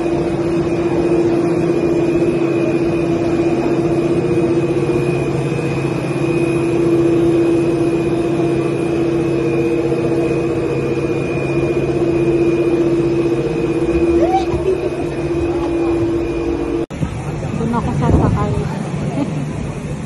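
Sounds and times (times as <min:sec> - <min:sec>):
machinery hum with high whine: 0:00.0 - 0:20.0.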